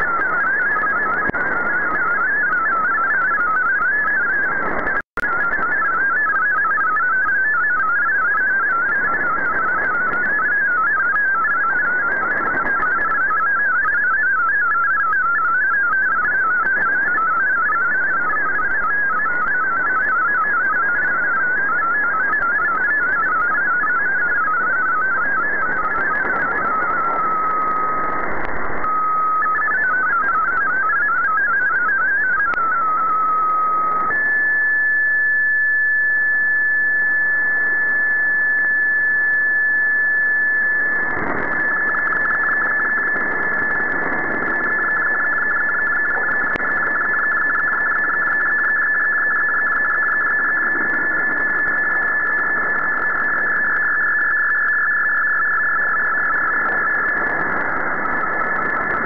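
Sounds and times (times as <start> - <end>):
radio static: 0.0 - 59.0.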